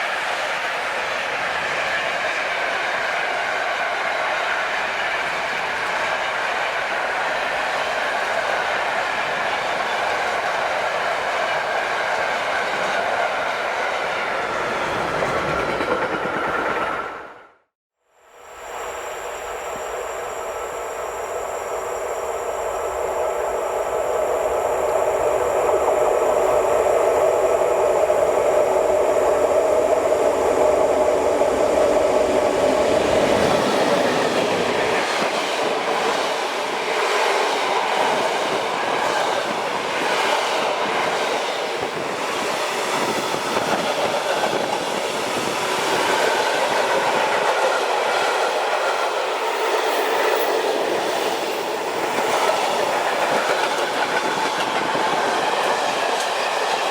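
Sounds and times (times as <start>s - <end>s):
train passing: 0.0s - 17.6s, 18.2s - 56.9s.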